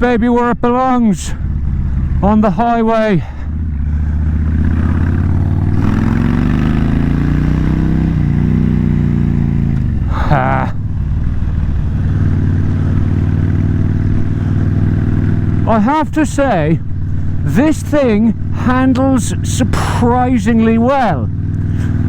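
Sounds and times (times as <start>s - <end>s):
motorcycle accelerating: 0.0s - 22.0s.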